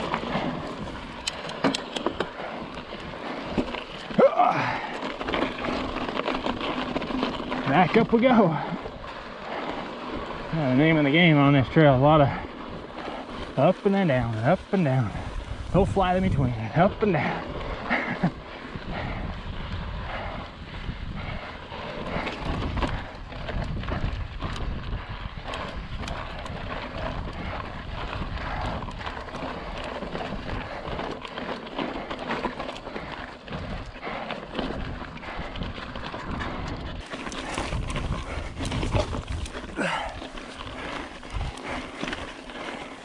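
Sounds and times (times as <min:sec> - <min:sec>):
tyres crunching on stones: 0:00.0 - 0:18.7, 0:21.9 - 0:43.0
bike rattling: 0:00.0 - 0:43.0.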